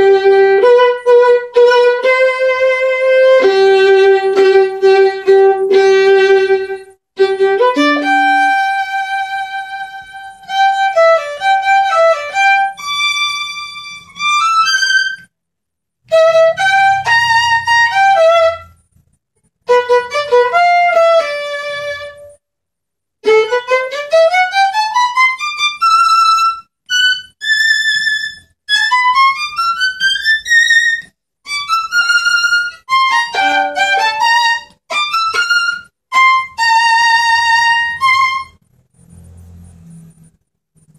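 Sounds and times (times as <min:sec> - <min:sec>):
solo violin: 0:00.0 - 0:15.3, 0:16.0 - 0:18.8, 0:19.6 - 0:22.4, 0:23.2 - 0:38.6.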